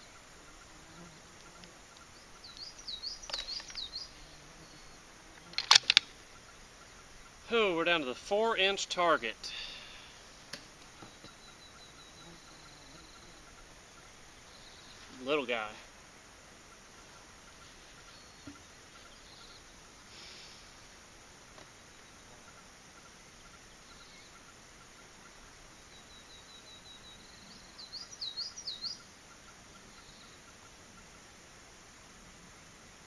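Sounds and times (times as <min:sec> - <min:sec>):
faint insect chirping: 0:00.0 - 0:33.0
songbird singing: 0:00.0 - 0:33.0.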